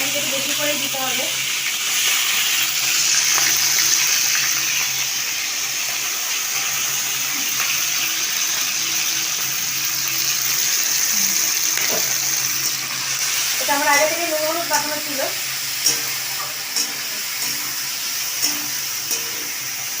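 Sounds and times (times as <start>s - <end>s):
prawns sizzling in hot oil: 0.0s - 20.0s.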